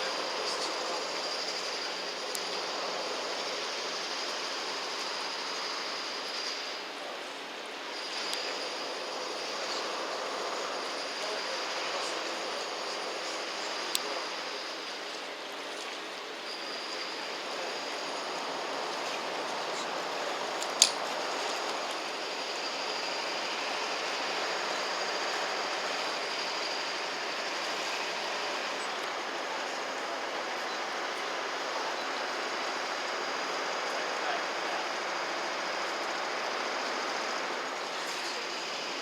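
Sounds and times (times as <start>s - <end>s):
riverside background noise: 0.0s - 39.0s.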